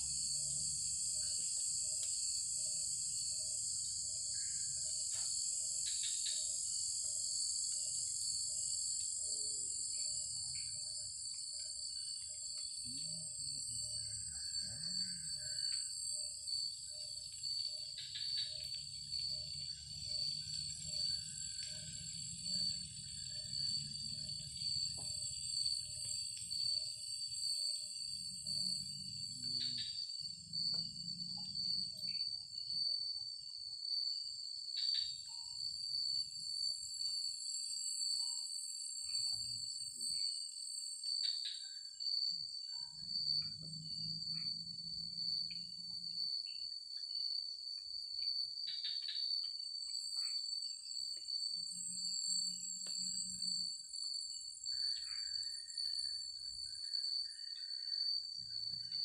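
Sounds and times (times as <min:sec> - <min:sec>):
insects hissing: 0:00.0 - 0:59.0
insects trilling: 0:00.0 - 0:59.0.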